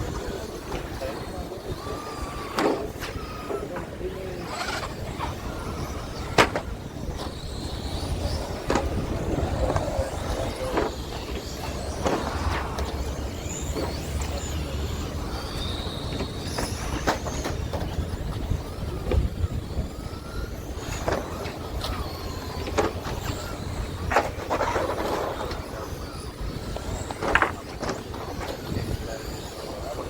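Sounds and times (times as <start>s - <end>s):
rc truck motors whining: 0.0s - 30.0s.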